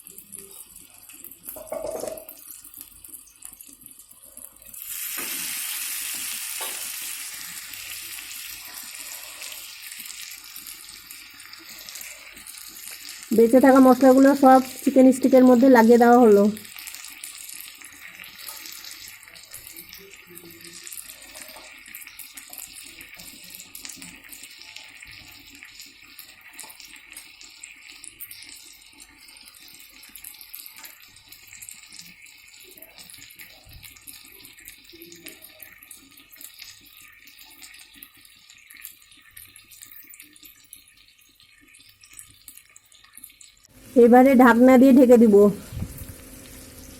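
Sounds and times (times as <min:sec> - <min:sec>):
chicken sizzling in oil: 0:00.0 - 0:46.9.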